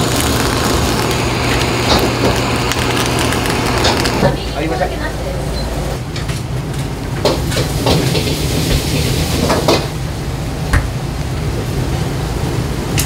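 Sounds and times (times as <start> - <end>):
busy kitchen rumble: 0.0 - 13.0.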